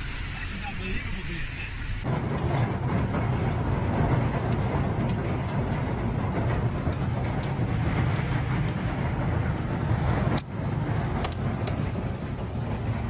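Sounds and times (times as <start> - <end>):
heavy rain and hail: 0.0 - 13.0
low rumble: 0.0 - 13.0.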